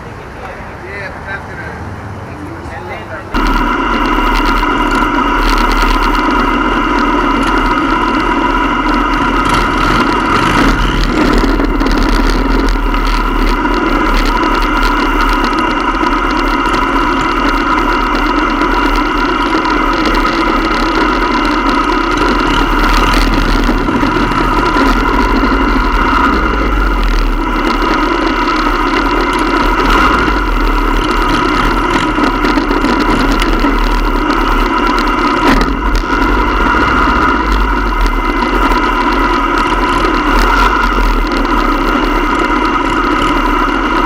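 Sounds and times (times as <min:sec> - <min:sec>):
motorcycle engines running: 0:00.0 - 0:44.0.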